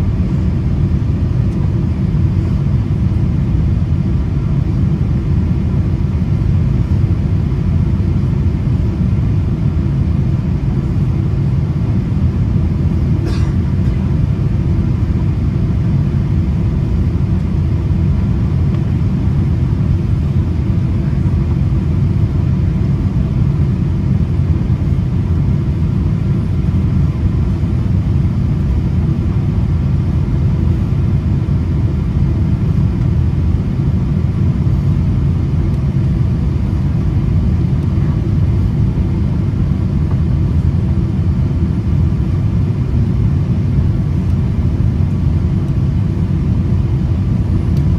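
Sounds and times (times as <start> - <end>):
aircraft cabin roar: 0.0 - 47.9.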